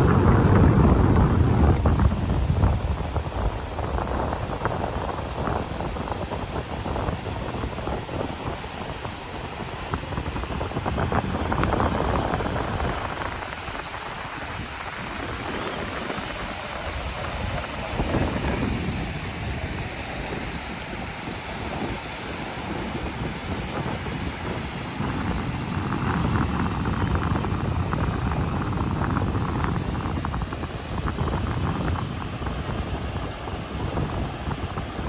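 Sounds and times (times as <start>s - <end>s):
surf breaking on beach: 0.0s - 35.0s
wind buffeting microphone: 0.0s - 35.0s.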